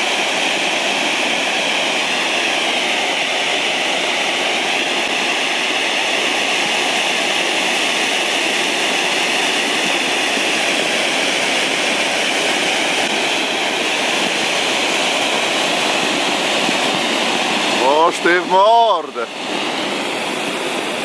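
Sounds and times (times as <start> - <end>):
firework fountains hissing: 0.0 - 21.0.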